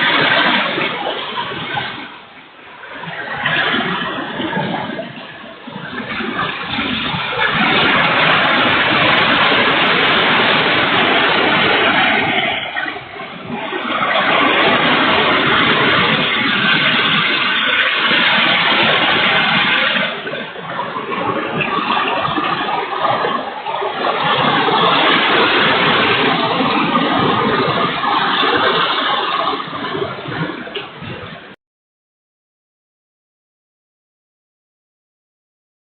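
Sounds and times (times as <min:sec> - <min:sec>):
heavy rain: 0:00.0 - 0:31.6
wind: 0:00.0 - 0:31.6.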